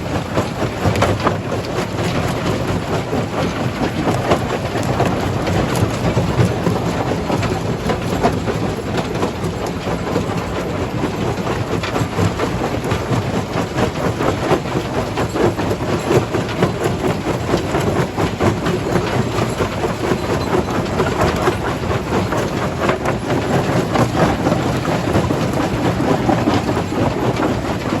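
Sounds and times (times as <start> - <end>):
rock crusher rumbling and grinding: 0.0 - 28.0.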